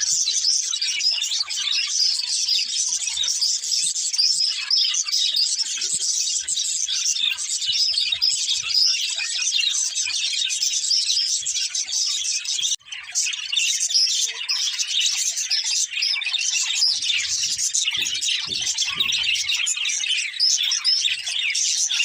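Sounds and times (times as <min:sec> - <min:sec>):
budgerigars chirping and warbling: 0:00.0 - 0:22.0.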